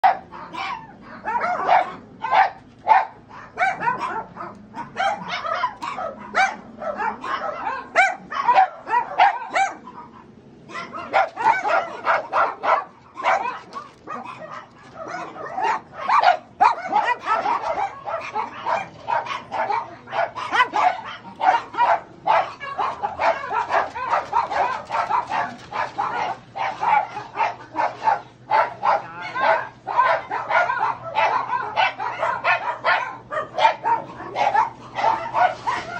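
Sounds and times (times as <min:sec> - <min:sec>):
many dogs barking: 0:00.0 - 0:35.9.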